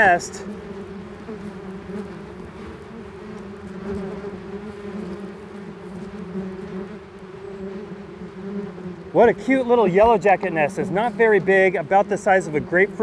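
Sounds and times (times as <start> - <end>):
yellowjackets buzzing: 0.0 - 13.0.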